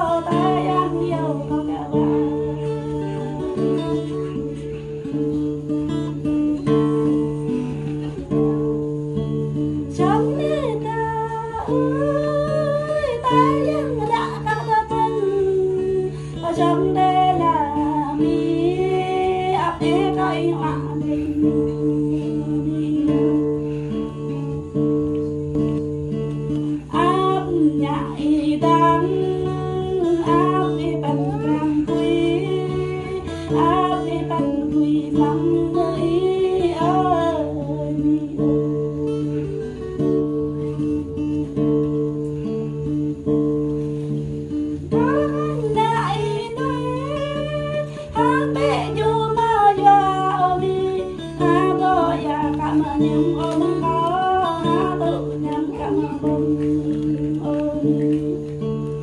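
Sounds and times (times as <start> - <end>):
person singing: 0.0 - 5.4, 6.1 - 24.7, 26.6 - 39.8, 40.6 - 59.0
strummed acoustic guitar: 0.0 - 59.0.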